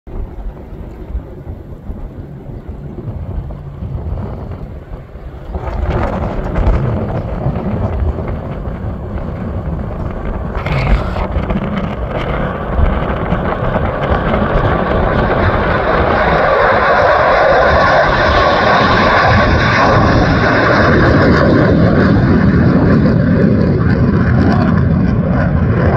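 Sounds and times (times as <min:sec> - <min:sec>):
jet engines roaring: 0:00.1 - 0:25.9
wind buffeting microphone: 0:00.1 - 0:25.9.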